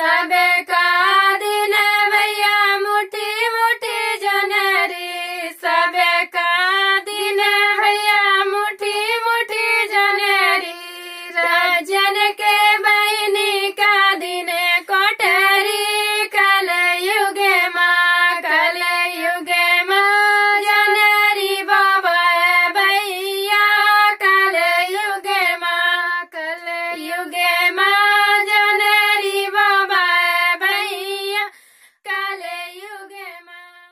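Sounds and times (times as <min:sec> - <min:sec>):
women singing unaccompanied: 0:00.0 - 0:33.9.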